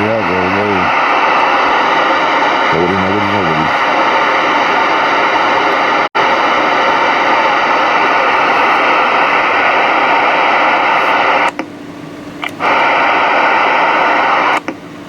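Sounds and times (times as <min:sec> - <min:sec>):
radio static hissing: 0:00.0 - 0:11.6, 0:12.4 - 0:14.8.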